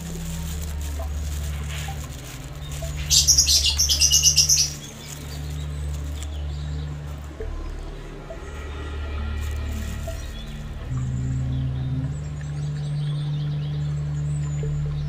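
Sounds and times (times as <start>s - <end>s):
steady low hum: 0.0s - 15.0s
bird chirping: 0.6s - 15.0s.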